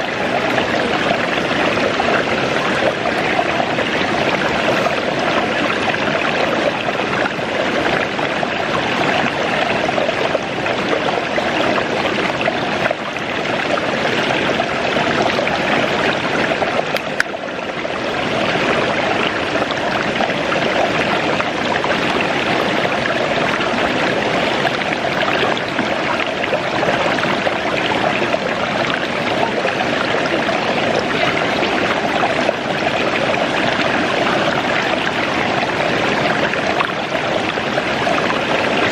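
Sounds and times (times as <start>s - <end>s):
waterfall rushing water: 0.0s - 38.9s.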